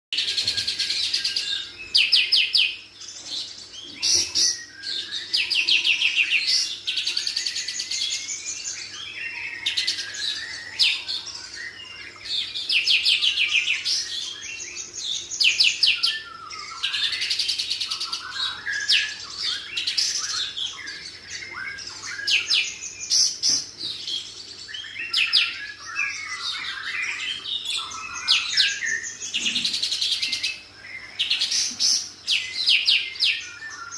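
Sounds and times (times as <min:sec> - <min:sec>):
songbird singing trills: 0:00.2 - 0:33.9.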